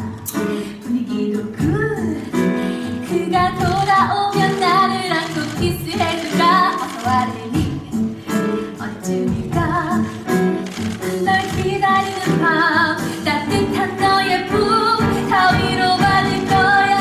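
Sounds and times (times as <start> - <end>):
woman singing: 0.0 - 17.0
instrumental accompaniment: 0.1 - 17.0.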